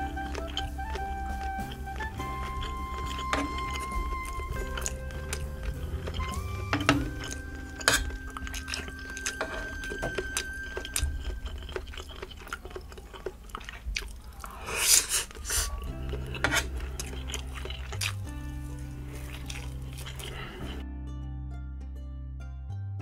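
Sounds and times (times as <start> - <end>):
wet mouth sounds: 0.0 - 9.4, 10.0 - 20.8
close-up chewing: 0.0 - 20.8.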